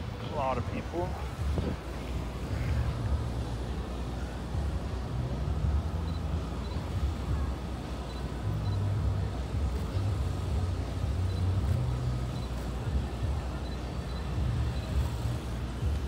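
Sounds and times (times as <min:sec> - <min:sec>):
crowd talking and walking: 0:00.0 - 0:16.0
road traffic rumble: 0:00.0 - 0:16.0.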